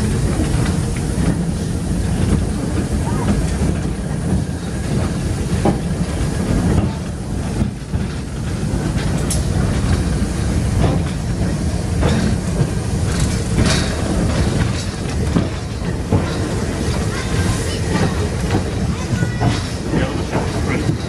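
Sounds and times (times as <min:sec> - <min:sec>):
steam locomotive rumbling: 0:00.0 - 0:21.0.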